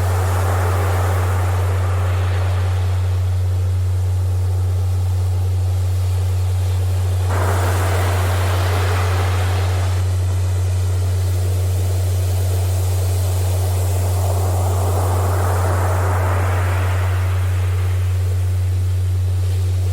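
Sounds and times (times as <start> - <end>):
steady low hum tone: 0.0 - 19.9
surf noise: 0.0 - 19.9.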